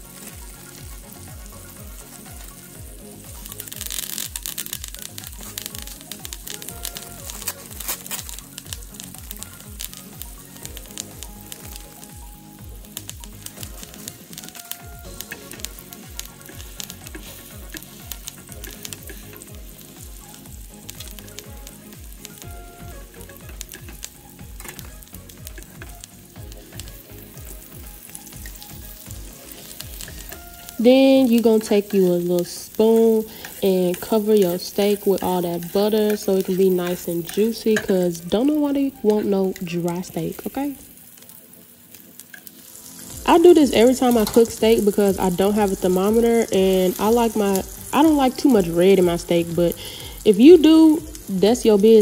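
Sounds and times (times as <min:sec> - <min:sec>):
butter sizzling and crackling: 0:00.0 - 0:52.0.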